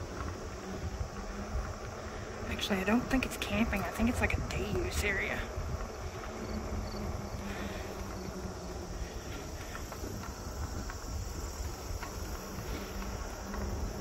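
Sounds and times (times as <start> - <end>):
insects chirring: 0.0 - 14.0
wind rumble on microphone: 0.0 - 14.0.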